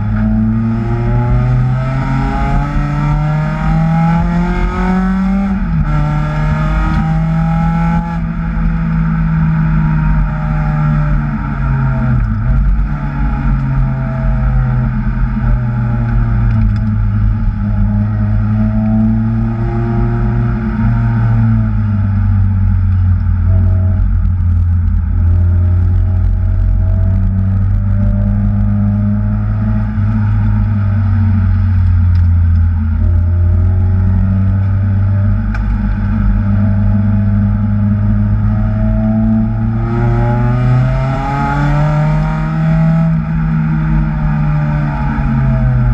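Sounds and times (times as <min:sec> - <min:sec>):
supercharged car engine revving: 0:00.0 - 0:45.9.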